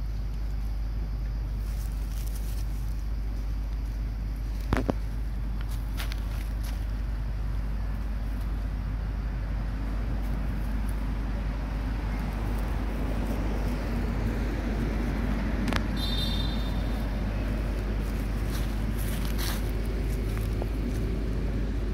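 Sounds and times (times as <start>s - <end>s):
low outdoor rumble: 0.0s - 21.9s.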